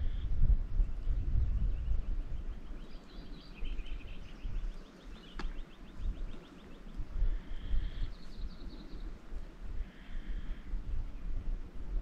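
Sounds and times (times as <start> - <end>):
small birds singing: 0.0 - 12.0
wind rumble on microphone: 0.0 - 12.0.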